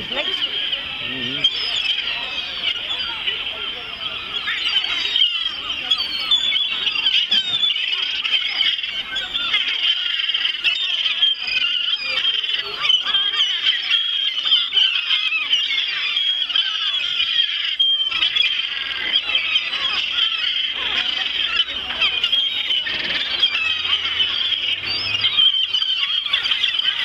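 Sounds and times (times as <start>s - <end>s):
gulls squealing: 0.0s - 27.0s.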